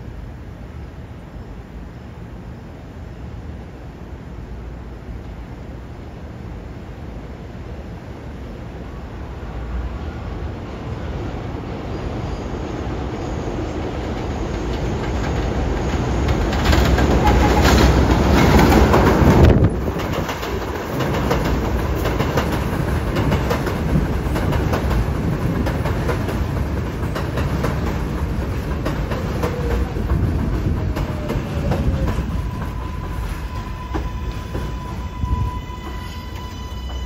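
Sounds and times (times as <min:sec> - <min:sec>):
train rolling noise and clicks: 0:00.0 - 0:37.0.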